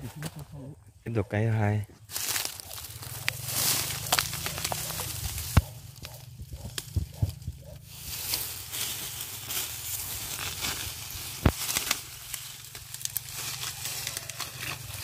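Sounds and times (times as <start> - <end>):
vegetation rustling and crackling: 2.0 - 15.0.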